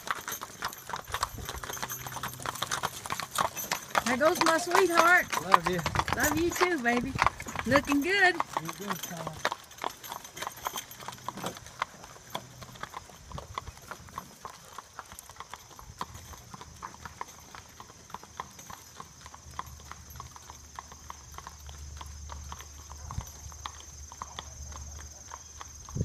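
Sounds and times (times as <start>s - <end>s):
hooves clip-clopping on asphalt: 0.0s - 26.0s.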